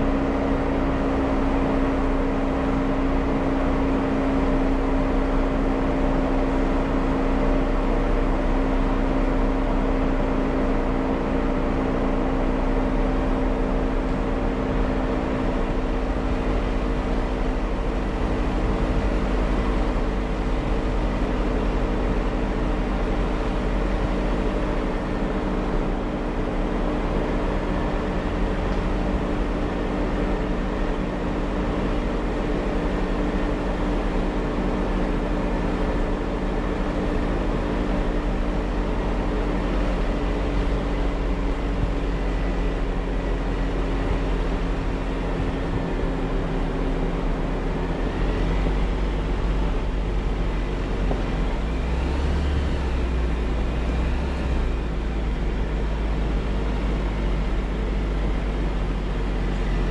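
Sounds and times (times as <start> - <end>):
car engine humming: 0.0 - 59.9
rumble of drivetrain and tyres: 0.0 - 59.9.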